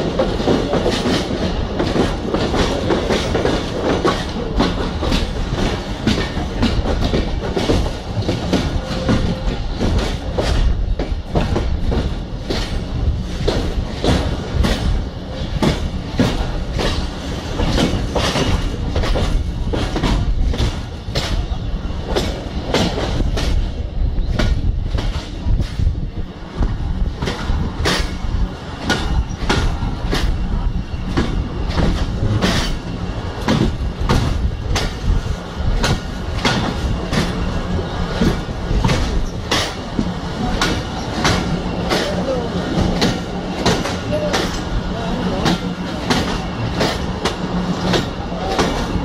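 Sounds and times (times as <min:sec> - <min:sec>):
train low rumble: 0:00.0 - 0:49.0
train wheels clattering on rails: 0:00.0 - 0:49.0.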